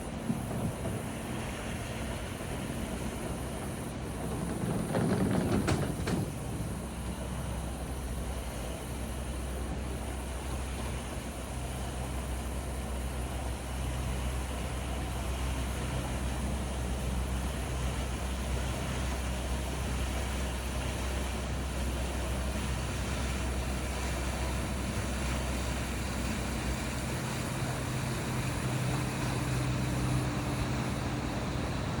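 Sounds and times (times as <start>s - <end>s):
engine droning: 0.0s - 32.0s.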